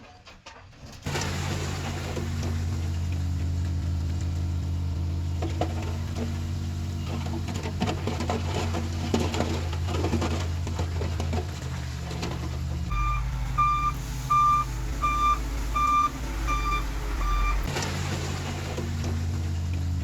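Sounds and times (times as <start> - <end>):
machinery clanking and rattling: 0.8 - 20.0
diesel engine running: 1.1 - 20.0.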